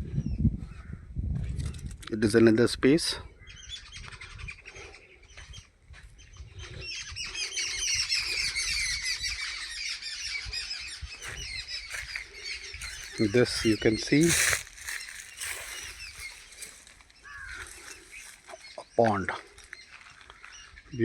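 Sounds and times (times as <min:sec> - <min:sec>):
flock of birds calling: 0:03.3 - 0:21.0.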